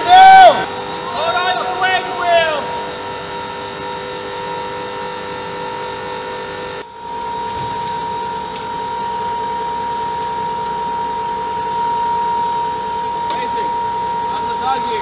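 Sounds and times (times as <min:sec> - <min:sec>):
machinery hum with whining tones: 0:00.0 - 0:15.0
steady hum with clear tone: 0:00.0 - 0:15.0.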